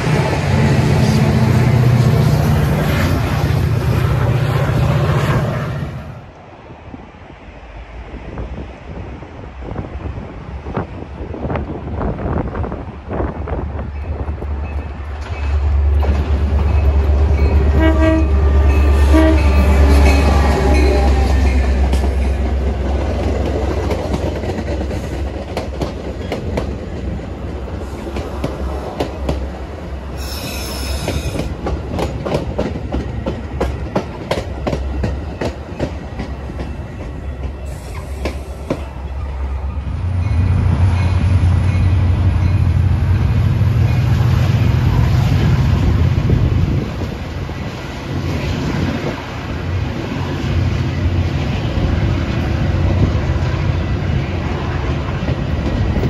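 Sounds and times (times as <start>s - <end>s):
train passing: 0.0s - 56.0s.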